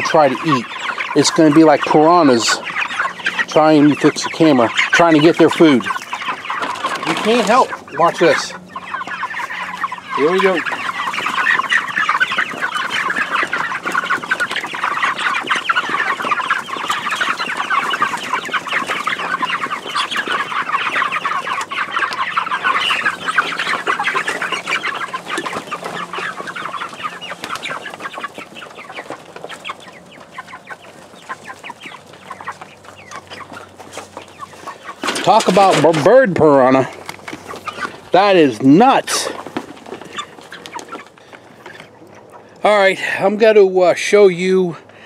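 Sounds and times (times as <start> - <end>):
chickens cheeping: 0.0 - 45.0.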